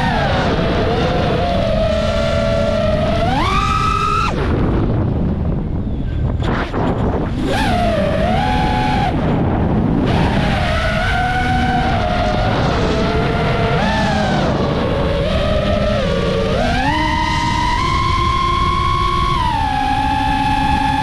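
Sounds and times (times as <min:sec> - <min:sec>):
drone motors whining: 0:00.0 - 0:21.0
steady rush of noise: 0:00.0 - 0:21.0.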